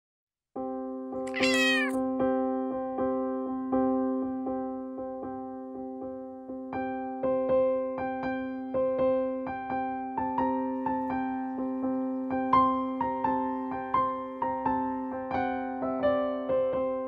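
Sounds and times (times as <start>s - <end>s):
soft electric piano: 0.9s - 17.0s.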